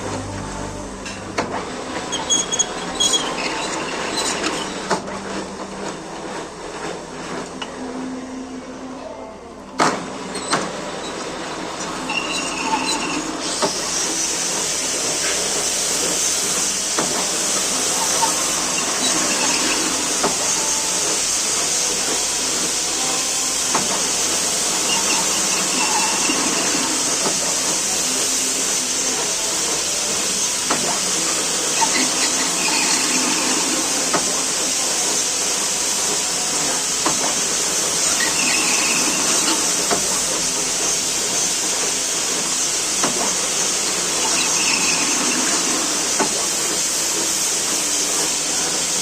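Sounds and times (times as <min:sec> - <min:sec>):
lathe running with hiss: 0:00.0 - 0:49.0.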